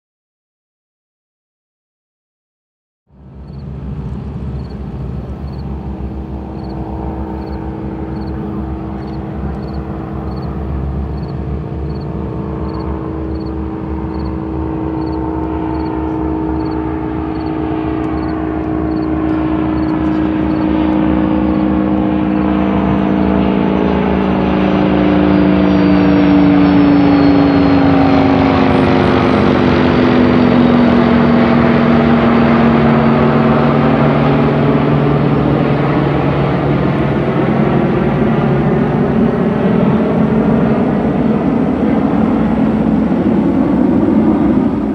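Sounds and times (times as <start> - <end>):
aircraft engine drone: 3.1 - 44.9
high jet whine: 3.1 - 44.9.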